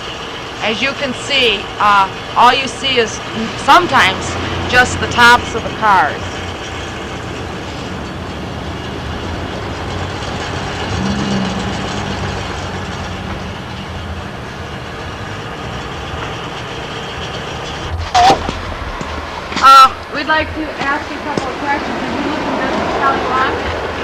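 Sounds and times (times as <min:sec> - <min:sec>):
steady outdoor noise: 0:00.0 - 0:24.0
vehicle engine running: 0:00.0 - 0:24.0.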